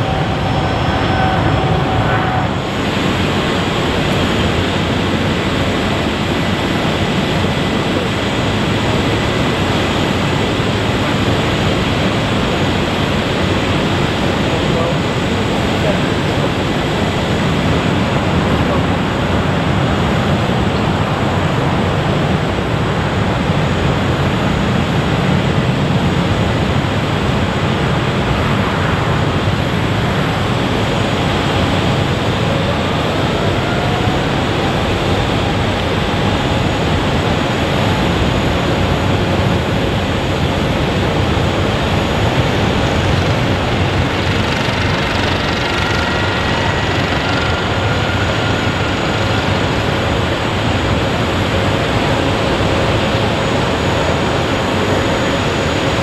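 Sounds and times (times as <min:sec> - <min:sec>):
jet engines roaring: 0:00.0 - 0:56.0
rising turbine whine: 0:00.0 - 0:56.0.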